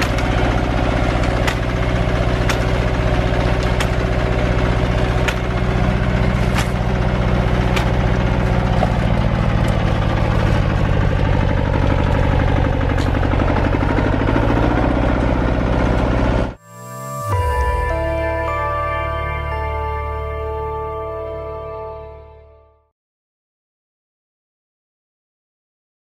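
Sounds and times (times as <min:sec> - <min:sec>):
tractor engine running: 0:00.0 - 0:22.6.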